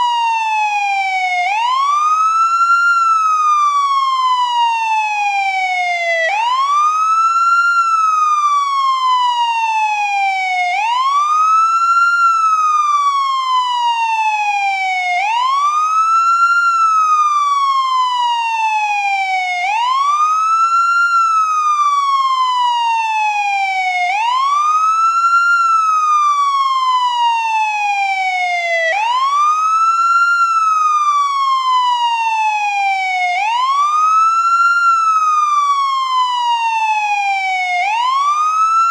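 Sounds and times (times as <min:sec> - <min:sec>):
ambulance siren wailing: 0:00.0 - 0:38.9.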